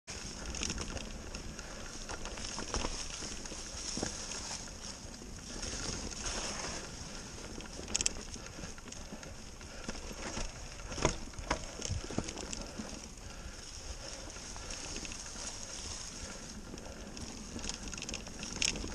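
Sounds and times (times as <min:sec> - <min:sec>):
bike knocking and rattling: 0:00.1 - 0:18.9
tyres rolling on dirt trail: 0:00.1 - 0:18.9.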